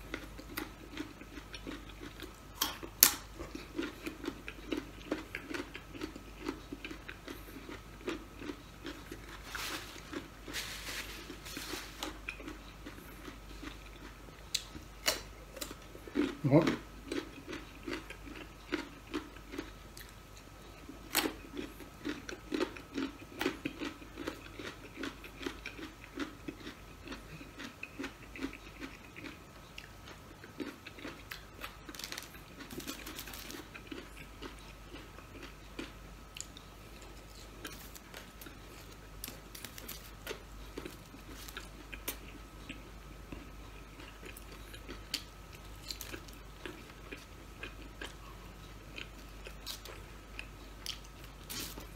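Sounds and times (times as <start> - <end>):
chewing crunchy fries: 0.0 - 51.9.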